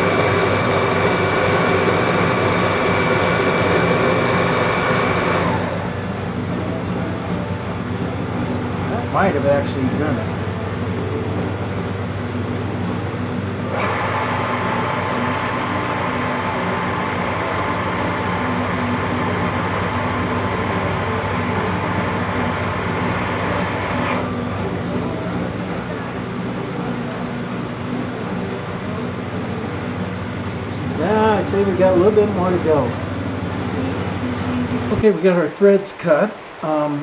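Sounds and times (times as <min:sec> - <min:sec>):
high whirring of cutting: 0:00.0 - 0:37.0
metal lathe humming: 0:00.0 - 0:37.0.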